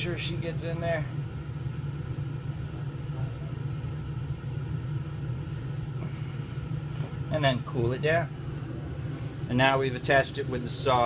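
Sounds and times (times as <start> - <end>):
ventilation hum: 0.0 - 11.0.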